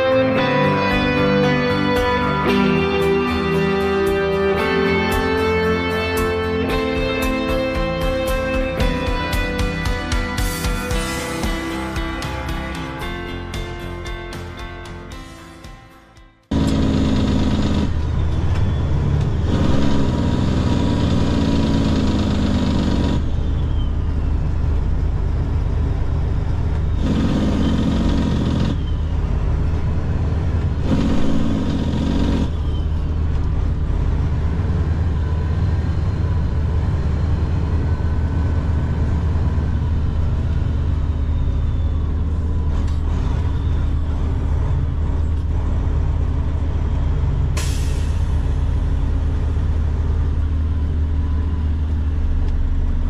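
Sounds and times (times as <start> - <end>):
diesel truck engine rumbling: 0.0 - 53.0.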